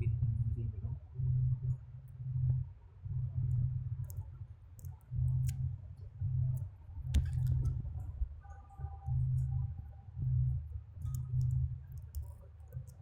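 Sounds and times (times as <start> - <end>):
low pulsing hum: 0.0 - 13.0.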